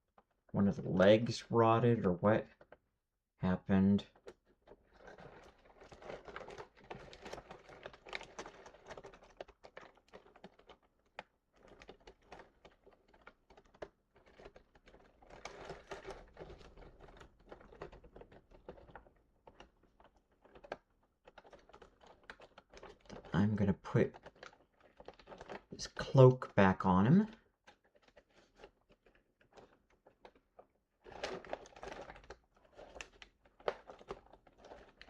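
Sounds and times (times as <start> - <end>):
plastic toy clicking and rustling: 4.1 - 23.4, 24.0 - 25.8, 27.3 - 35.0.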